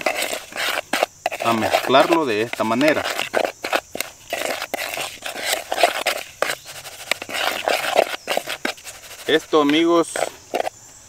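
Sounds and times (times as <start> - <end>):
metal spoon scraping dry powder: 0.0 - 10.8.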